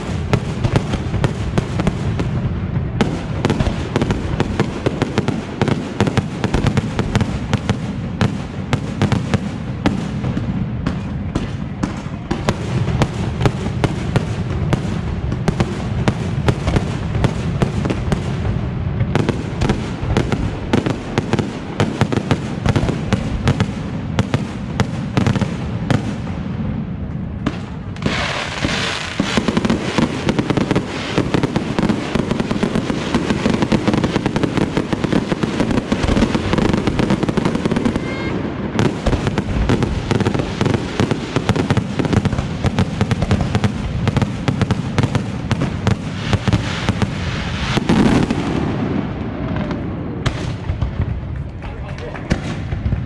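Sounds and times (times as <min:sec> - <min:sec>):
fireworks bursting and banging: 0:00.0 - 0:53.0
hissing crackle of fireworks: 0:00.0 - 0:53.0.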